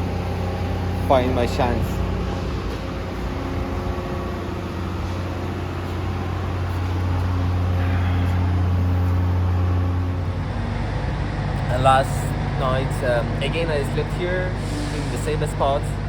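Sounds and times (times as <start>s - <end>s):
motor humming: 0.0s - 15.2s.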